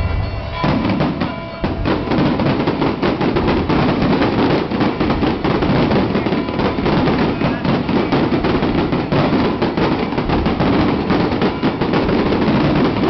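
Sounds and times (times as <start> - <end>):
firecracker bangs: 0.0 - 13.0.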